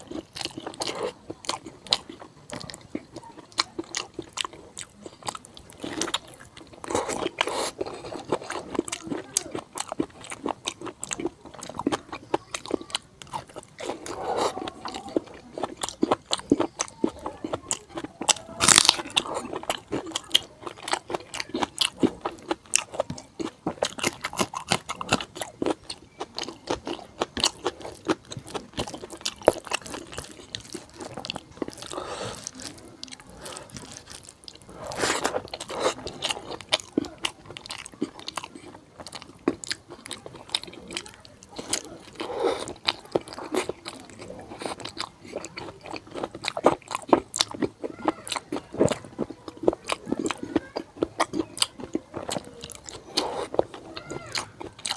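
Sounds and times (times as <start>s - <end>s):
chewing and crunching food: 0.0s - 54.9s.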